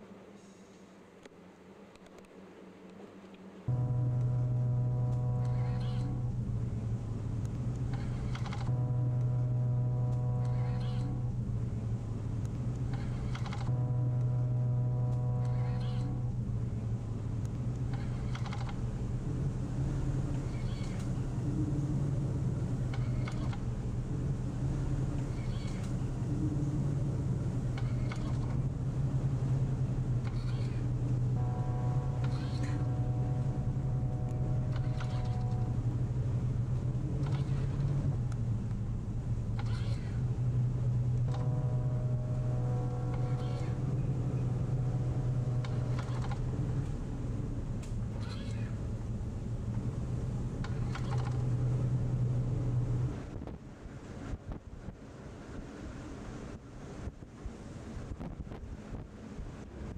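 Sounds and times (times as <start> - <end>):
high whine of steady tones: 0.0 - 59.9
ship engine hum: 0.0 - 59.9.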